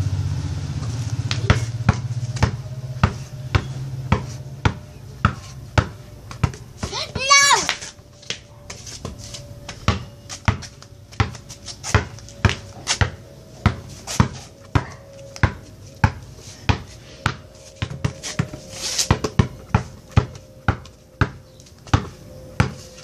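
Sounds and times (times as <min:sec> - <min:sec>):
basketball bouncing on concrete: 0:01.2 - 0:22.8.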